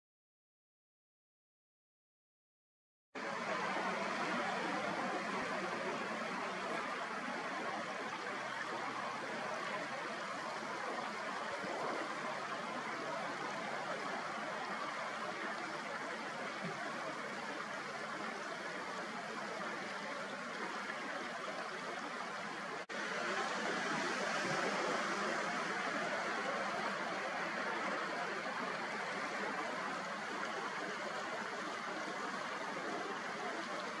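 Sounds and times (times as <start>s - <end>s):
river water rushing: 3.2s - 34.0s.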